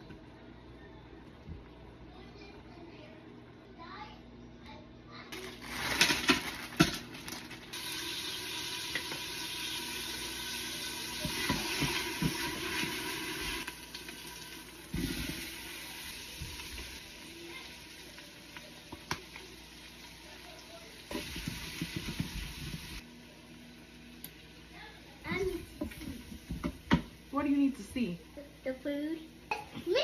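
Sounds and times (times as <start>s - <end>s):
food sizzling in a pot: 5.4s - 30.0s.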